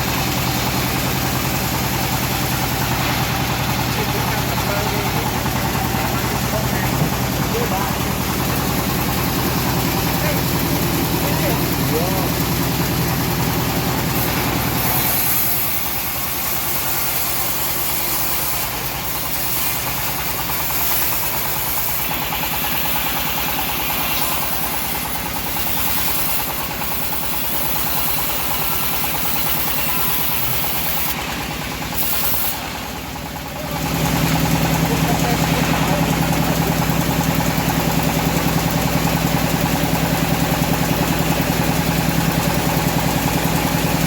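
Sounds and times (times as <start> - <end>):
sawmill engine running: 0.0 - 44.0.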